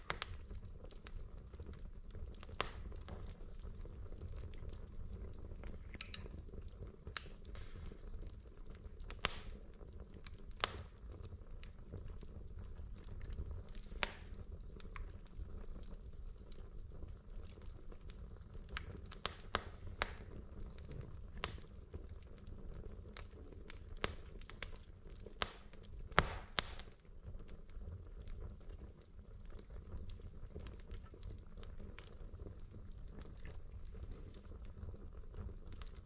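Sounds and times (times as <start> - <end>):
fire flames rumbling: 0.0 - 36.0
wood crackling and popping: 0.0 - 36.0.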